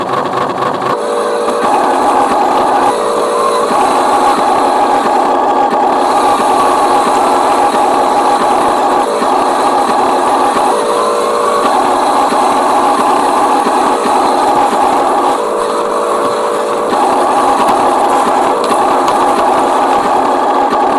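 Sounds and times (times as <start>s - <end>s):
electric motor whining: 0.8s - 20.9s.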